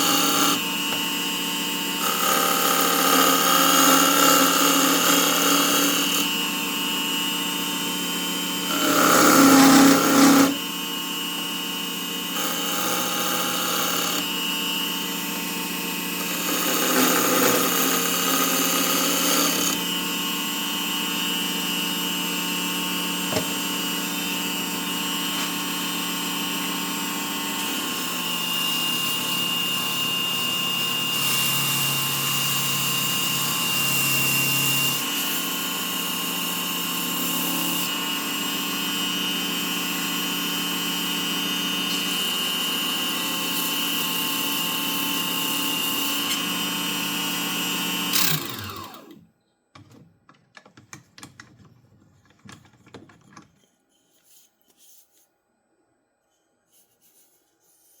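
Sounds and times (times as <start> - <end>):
wood lathe motor whine: 0.0 - 49.3.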